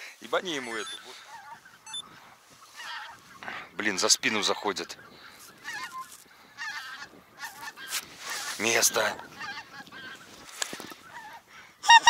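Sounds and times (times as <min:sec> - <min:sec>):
geese honking: 0:00.5 - 0:12.0.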